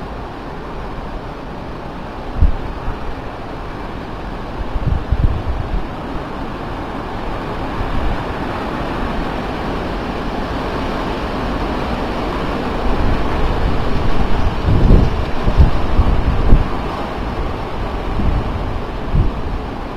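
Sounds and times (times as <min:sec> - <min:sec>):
gusty wind rushing: 0:00.0 - 0:19.9
wind buffeting microphone: 0:02.0 - 0:19.9.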